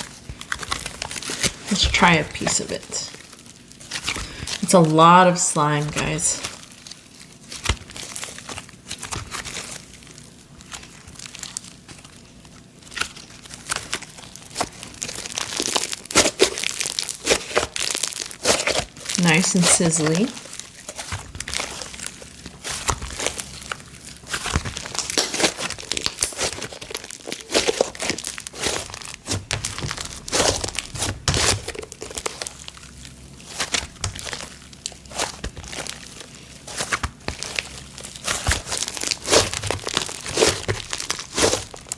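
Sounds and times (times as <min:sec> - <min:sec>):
slime crackling when squished: 0:06.0 - 0:41.9.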